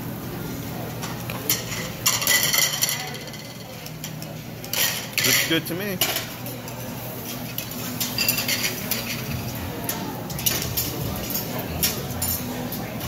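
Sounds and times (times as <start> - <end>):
tongs and scissors clinking on grill: 0.9 - 13.0.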